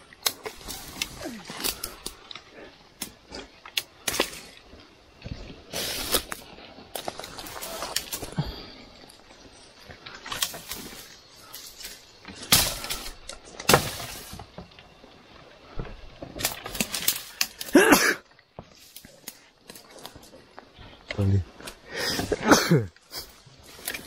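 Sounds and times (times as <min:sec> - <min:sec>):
brush and twigs crackling: 0:00.0 - 0:24.0.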